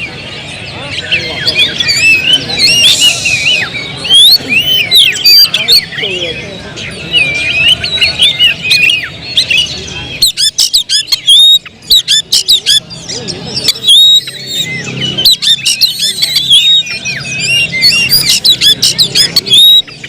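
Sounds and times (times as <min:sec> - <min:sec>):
bird singing fast varied song: 0:00.0 - 0:20.0.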